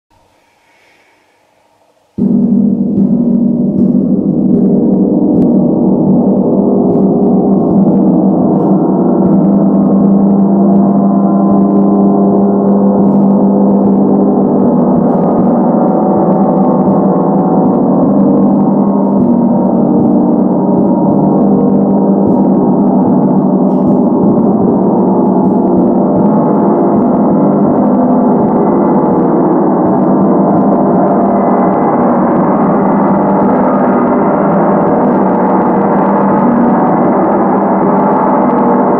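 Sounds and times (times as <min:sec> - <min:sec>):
gong played with soft mallets: 0:02.2 - 0:38.9.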